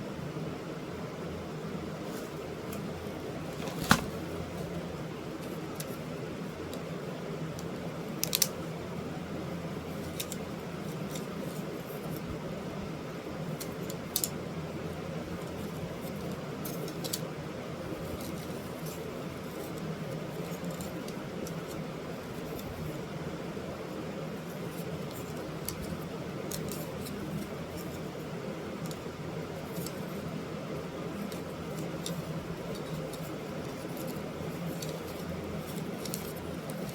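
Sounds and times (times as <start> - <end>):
low room hum: 0.0 - 36.9.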